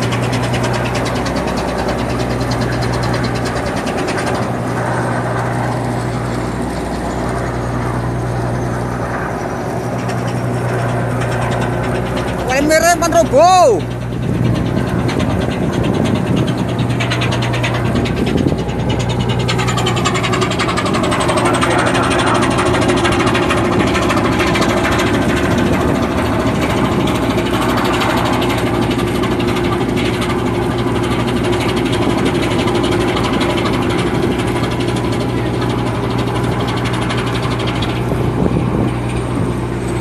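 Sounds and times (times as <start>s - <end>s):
ship engine humming: 0.0s - 40.0s.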